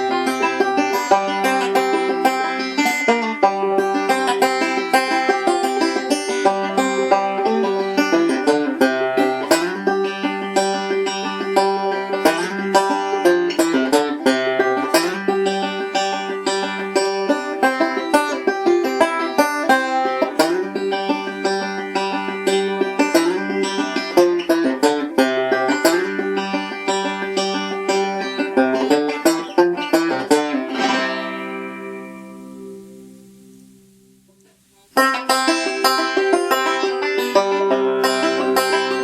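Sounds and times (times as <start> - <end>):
banjo picking quick notes: 0.0 - 39.0.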